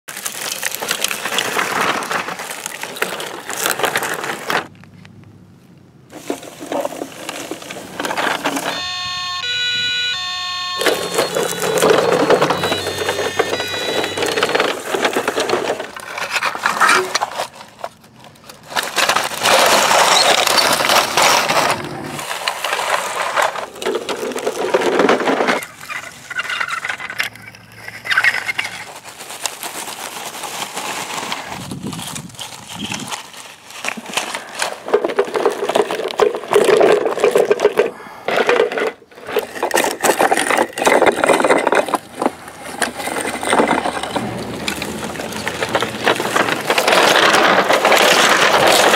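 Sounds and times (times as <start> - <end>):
plastic toy bodies rattling: 0.1 - 4.8, 6.1 - 48.9
toy truck wheels crunching leaves: 0.1 - 4.8, 6.1 - 48.9.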